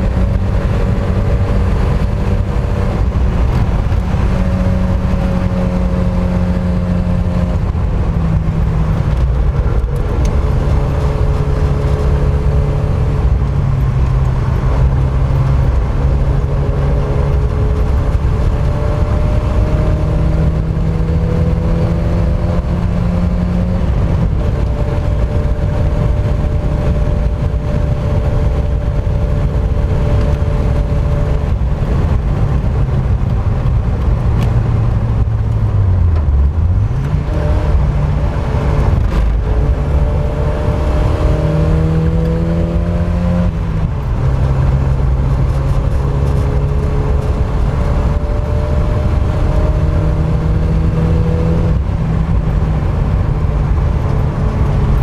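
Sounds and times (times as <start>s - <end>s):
car engine revving through gears: 0.0s - 55.0s
road and wind noise: 0.0s - 55.0s.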